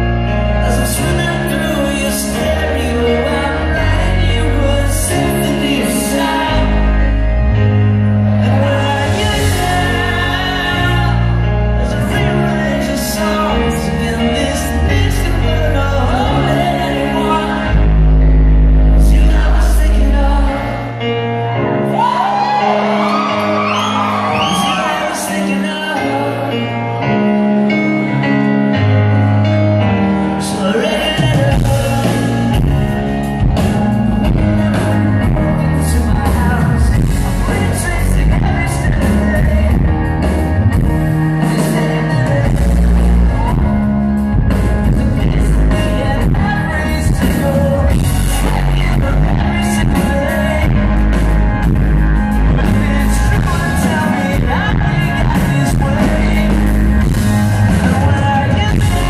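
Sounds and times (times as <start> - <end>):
drums: 0.0 - 26.4, 27.7 - 59.0
grand piano: 0.0 - 59.0
live pop-rock band: 0.0 - 59.0
person singing lead vocal: 0.0 - 59.0.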